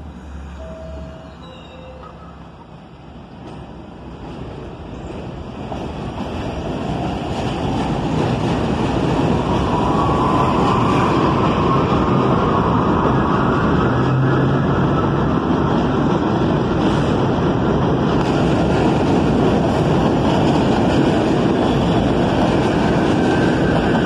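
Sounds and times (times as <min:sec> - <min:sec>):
subway train wheels on rail: 0:00.0 - 0:24.0
train whine: 0:00.0 - 0:24.0.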